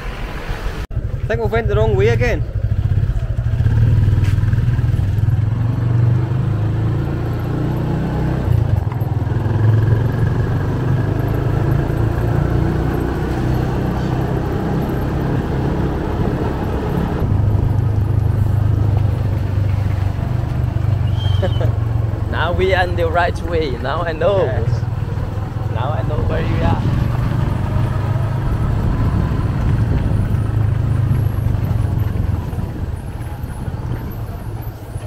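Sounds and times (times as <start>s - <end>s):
road noise: 0.0s - 35.0s
motorcycle engine running: 0.9s - 35.0s.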